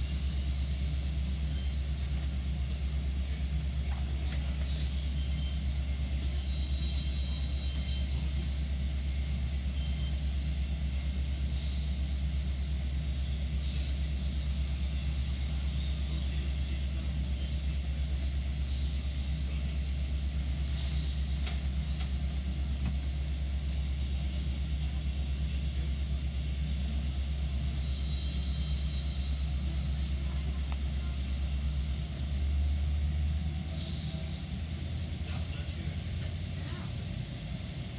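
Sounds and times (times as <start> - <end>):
diesel train rumble: 0.0 - 37.9.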